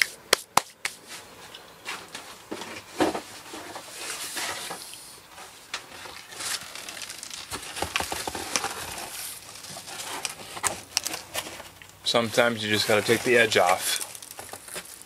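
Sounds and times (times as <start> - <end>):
cardboard box rustling and scraping: 1.9 - 11.8, 12.4 - 15.0.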